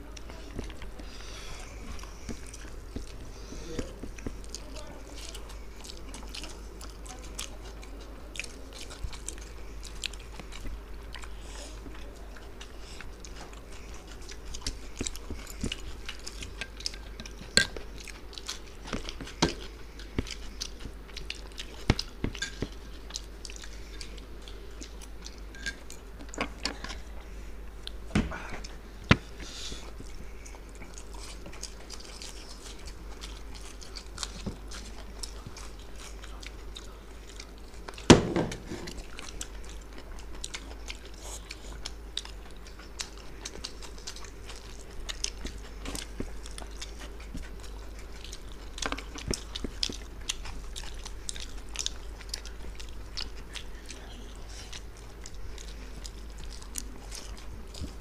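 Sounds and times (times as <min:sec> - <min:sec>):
chewing and mouth noises: 0:00.0 - 0:58.0.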